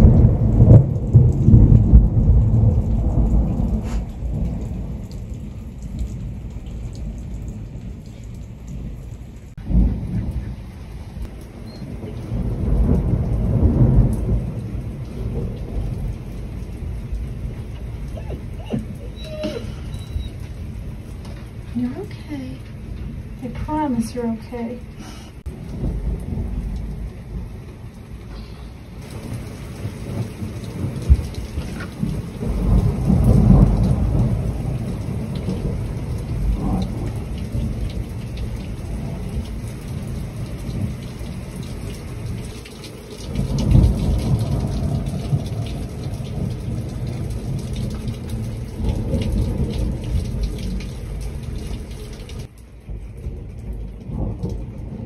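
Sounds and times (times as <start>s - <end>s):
heavy rain pouring: 0.0s - 55.0s
thunder rumbling: 0.0s - 55.0s.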